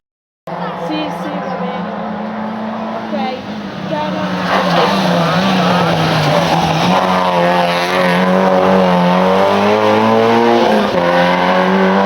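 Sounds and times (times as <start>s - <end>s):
rally car engine at high revs: 0.5s - 12.0s.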